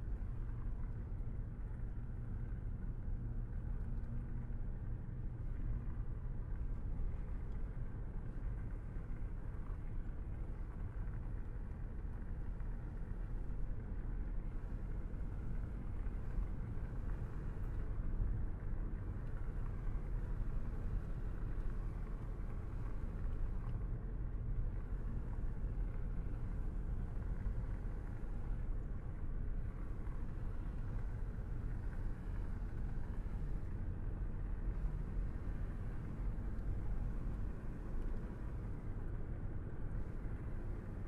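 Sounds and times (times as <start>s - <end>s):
car driving on road: 0.0s - 41.0s.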